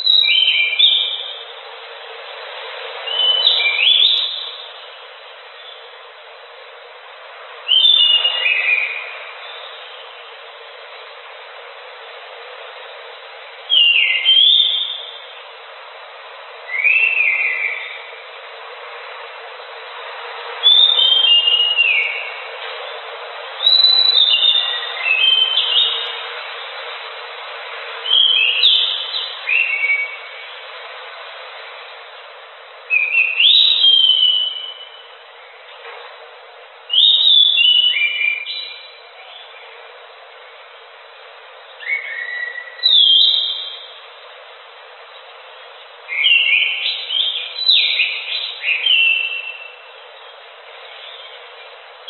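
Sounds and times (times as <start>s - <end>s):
thrush singing high whistled notes: 0.0s - 35.8s, 36.7s - 52.0s
steady hiss: 0.0s - 52.0s.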